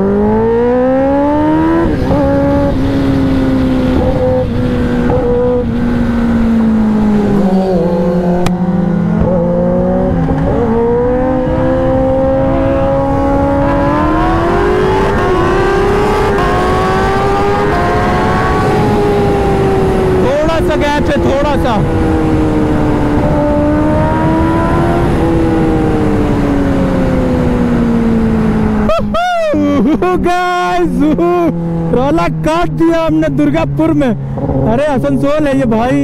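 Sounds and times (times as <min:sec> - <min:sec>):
wind rushing over microphone: 0:00.0 - 0:28.9
motorcycle engine revving: 0:00.0 - 0:29.0, 0:30.5 - 0:36.0.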